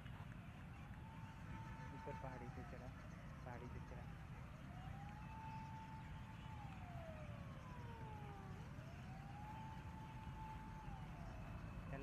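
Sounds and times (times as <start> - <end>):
wailing siren: 0.9 - 12.0.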